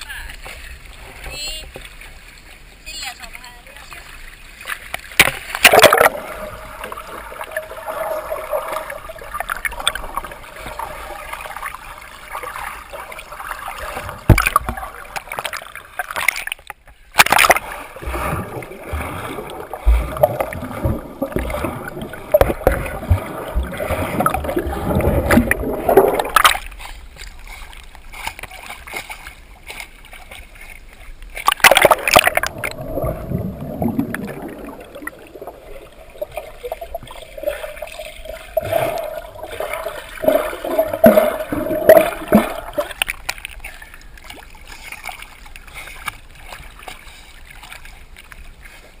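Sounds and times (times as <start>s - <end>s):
water splashing and sloshing: 0.0s - 49.0s
underwater bubbling and gurgling: 4.0s - 49.0s.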